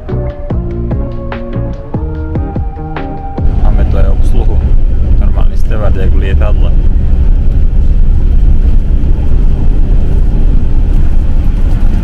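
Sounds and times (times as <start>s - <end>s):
coach engine rumble: 0.0s - 12.0s
road noise: 0.0s - 12.0s.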